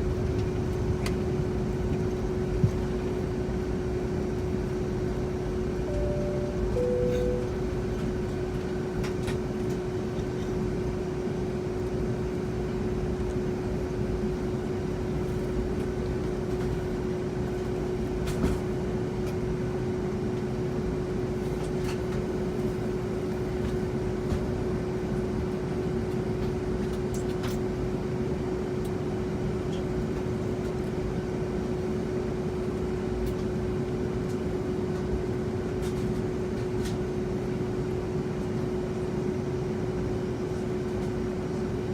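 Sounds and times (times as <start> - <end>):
airplane cabin rumble and hum: 0.0 - 41.9.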